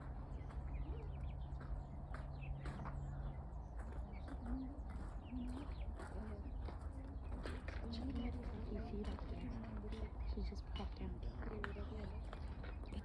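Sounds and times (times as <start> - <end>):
farmyard birds calling: 0.0 - 13.0.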